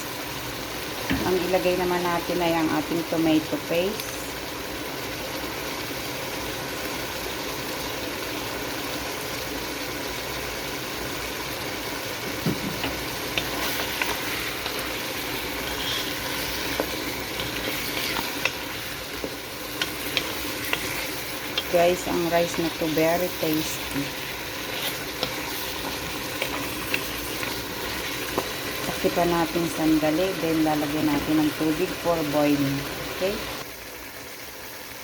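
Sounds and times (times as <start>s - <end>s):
food sizzling in a pot: 0.0s - 35.0s.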